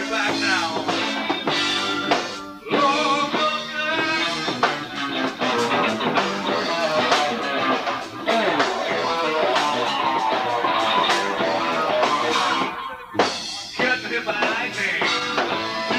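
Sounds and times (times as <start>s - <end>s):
bass guitar: 0.0s - 15.9s
drums: 0.0s - 15.9s
electric guitar: 0.0s - 15.9s.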